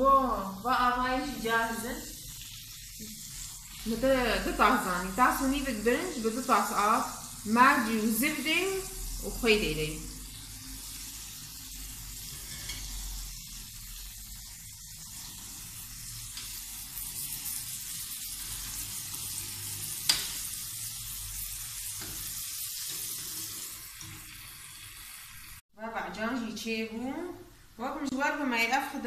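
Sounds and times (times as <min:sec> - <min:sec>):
tomato slices sizzling: 0:00.0 - 0:25.6.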